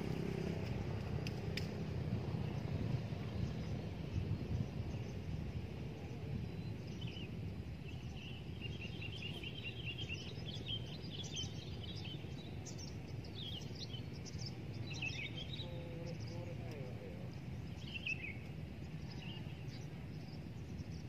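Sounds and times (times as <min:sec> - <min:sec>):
steady low rumble: 0:00.0 - 0:21.0
small birds chirping: 0:02.4 - 0:21.0.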